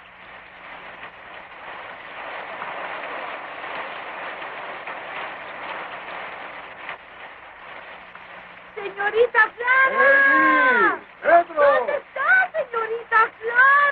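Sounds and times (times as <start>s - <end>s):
steady rain hiss: 0.0s - 13.9s.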